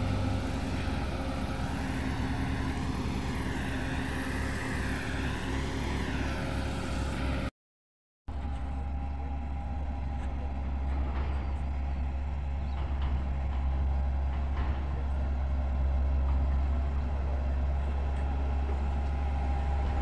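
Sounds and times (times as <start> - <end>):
road roller diesel engine droning: 0.0 - 7.5, 8.3 - 20.0.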